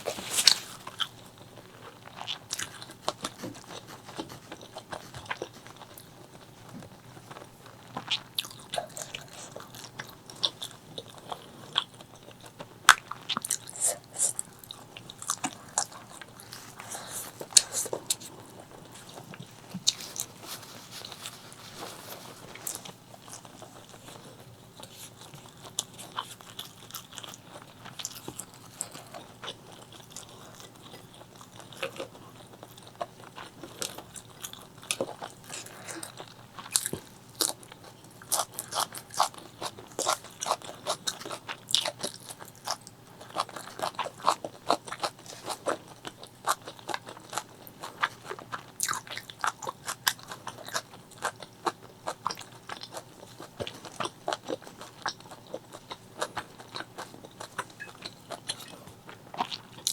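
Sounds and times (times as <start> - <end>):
crunchy wet chewing: 0.0 - 59.9.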